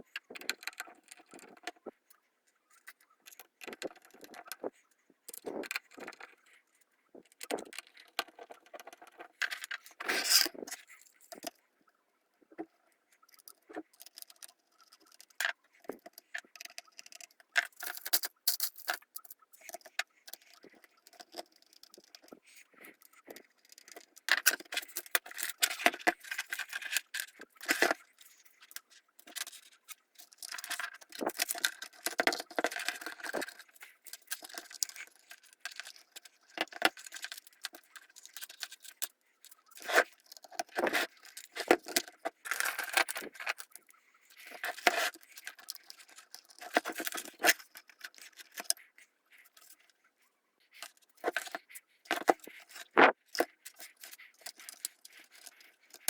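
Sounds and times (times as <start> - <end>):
small hard parts clicking and rattling: 0.0 - 11.7, 12.4 - 50.0, 50.6 - 56.0.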